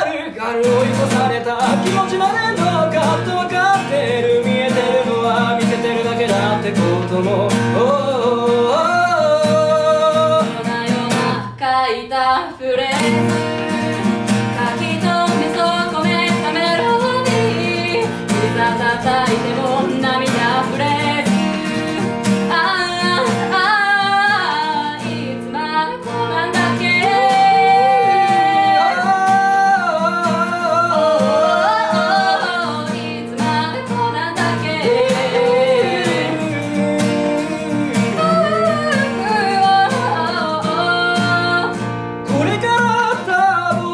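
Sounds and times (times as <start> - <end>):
acoustic guitar: 0.0 - 43.9
man and woman singing: 0.0 - 43.9.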